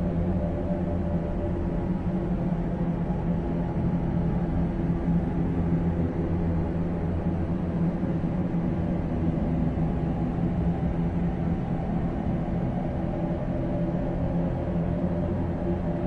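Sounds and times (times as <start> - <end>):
low hum of pumps and machinery: 0.0 - 16.0.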